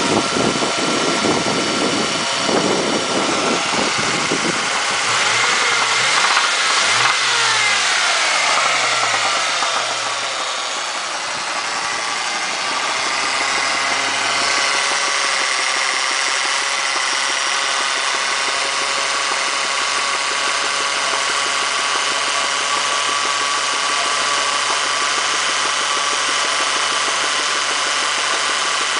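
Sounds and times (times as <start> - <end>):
car engine revving and idling: 0.0 - 28.9.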